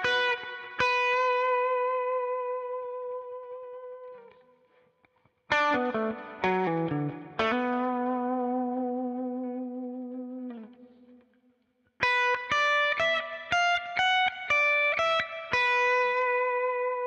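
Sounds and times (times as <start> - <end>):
electric guitar blues lick: 0.0 - 11.3, 12.0 - 17.0.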